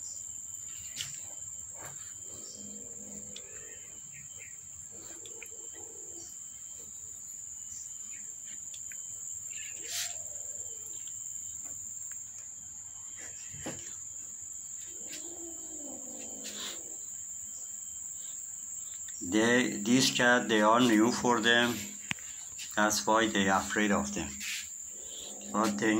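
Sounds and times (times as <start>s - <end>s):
insect chirring: 0.0s - 25.9s.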